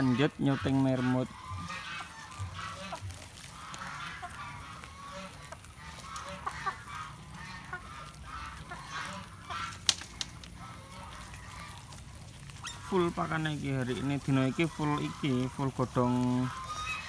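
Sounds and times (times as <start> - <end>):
guinea pigs squealing: 0.0 - 17.0.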